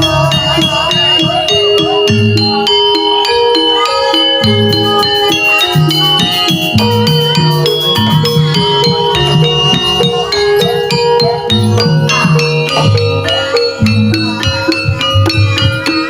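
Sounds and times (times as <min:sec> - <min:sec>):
gamelan ensemble music: 0:00.0 - 0:16.0
low repeating tones: 0:00.0 - 0:16.0
struck metallophones: 0:00.0 - 0:16.0.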